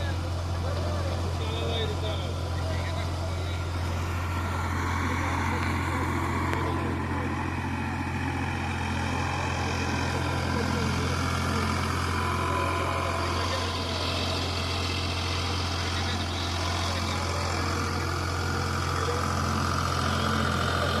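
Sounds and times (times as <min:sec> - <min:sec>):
tractor diesel engine droning: 0:00.0 - 0:21.0.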